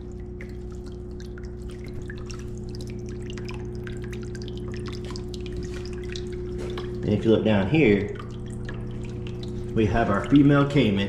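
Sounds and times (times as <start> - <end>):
mechanical hum: 0.0 - 11.0
water dripping and trickling: 0.0 - 11.0.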